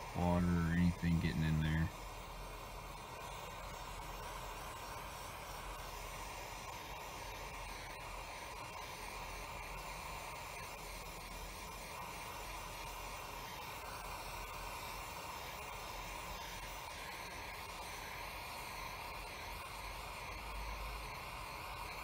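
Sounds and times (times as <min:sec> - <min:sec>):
lighter flame hissing: 0:00.0 - 0:22.0.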